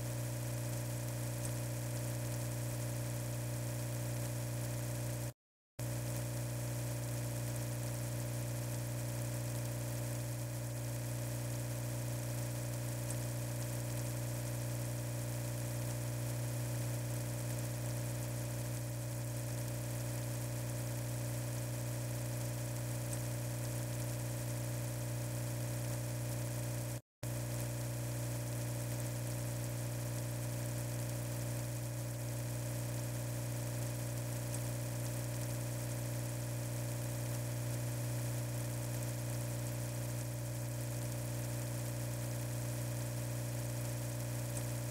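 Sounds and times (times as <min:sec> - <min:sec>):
low electric hum: 0:00.0 - 0:44.9.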